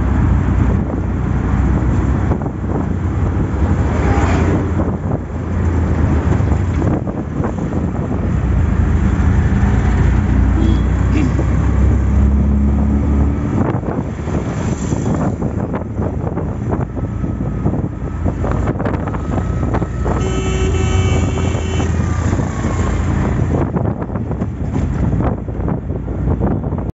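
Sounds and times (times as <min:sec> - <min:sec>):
auto-rickshaw engine and road noise: 0:00.0 - 0:26.9
wind buffeting microphone: 0:00.0 - 0:26.9.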